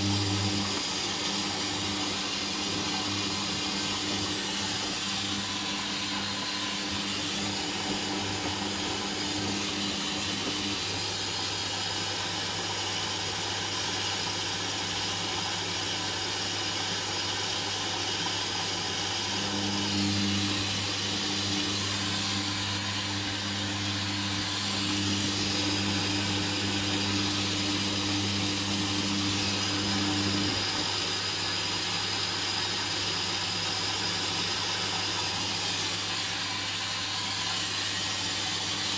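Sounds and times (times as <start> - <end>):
washing machine hiss and hum: 0.0 - 38.9.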